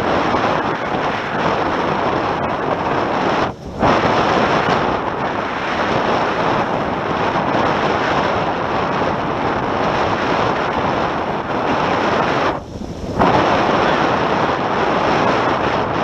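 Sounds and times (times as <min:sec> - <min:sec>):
water rushing past hulls: 0:00.0 - 0:16.0
wind buffeting microphone: 0:00.0 - 0:16.0.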